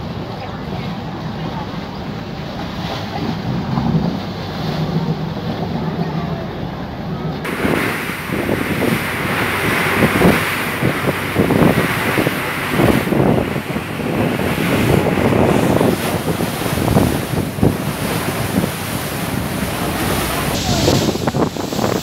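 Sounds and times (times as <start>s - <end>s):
water rushing in boat wake: 0.0s - 22.0s
wind buffeting microphone: 0.0s - 22.0s.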